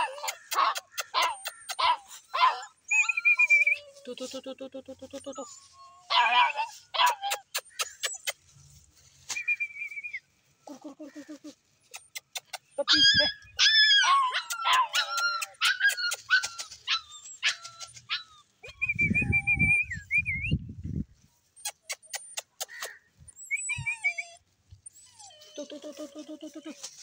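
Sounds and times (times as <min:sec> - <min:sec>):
puppies whining and yipping: 0:00.0 - 0:10.8, 0:11.4 - 0:20.3, 0:21.5 - 0:27.0.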